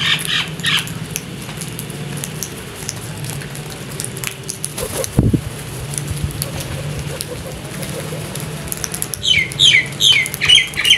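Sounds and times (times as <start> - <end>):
beaks pecking on concrete: 0.0 - 10.9
wingbeats fluttering: 0.1 - 10.9.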